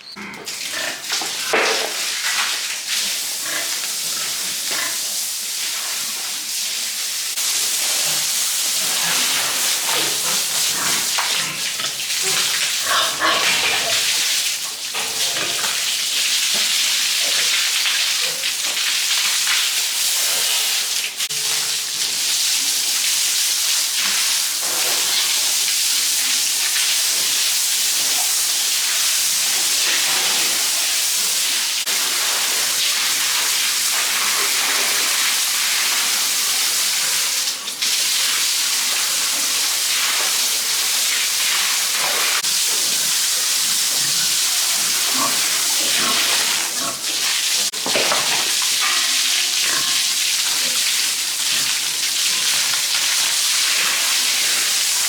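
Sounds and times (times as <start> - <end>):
running water hiss: 0.4 - 55.0.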